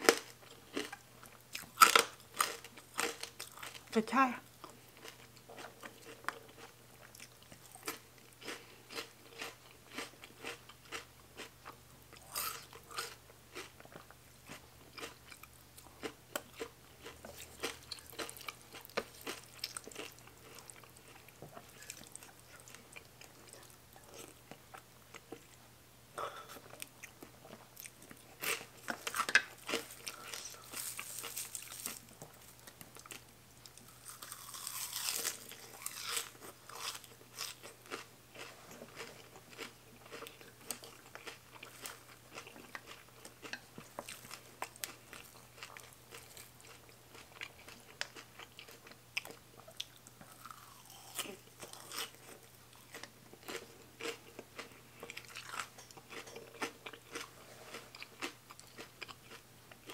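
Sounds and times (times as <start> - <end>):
person chewing crunchy vegetables: 0.0 - 25.6, 26.2 - 59.9.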